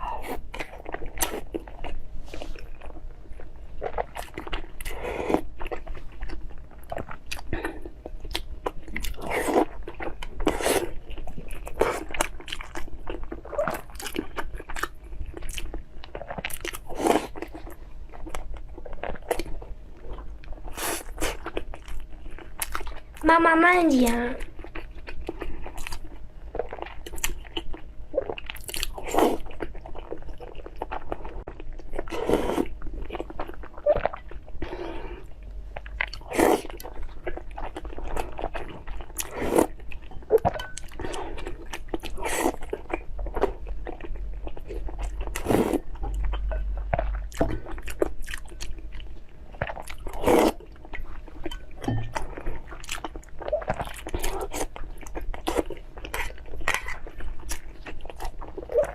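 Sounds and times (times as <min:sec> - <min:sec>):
person chewing crunchy food: 0:00.0 - 0:23.3, 0:24.0 - 0:58.9.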